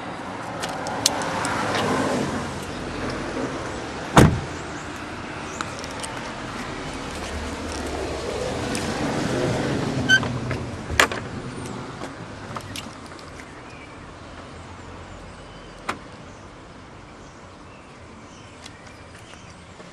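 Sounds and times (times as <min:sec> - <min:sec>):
car background hum: 0:00.0 - 0:19.5.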